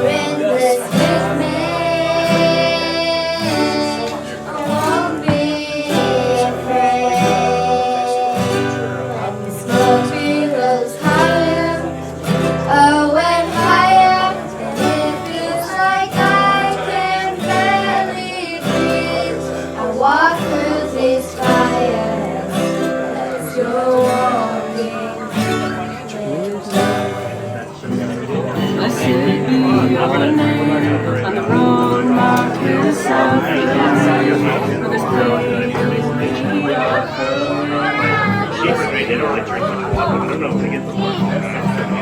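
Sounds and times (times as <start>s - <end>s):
acoustic guitar: 0.0s - 42.0s
person singing: 0.0s - 42.0s.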